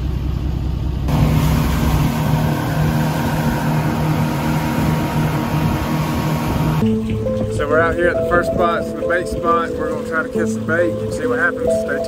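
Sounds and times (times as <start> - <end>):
motorboat engine running: 0.0 - 12.0
rush of boat wake and wind: 1.1 - 12.0.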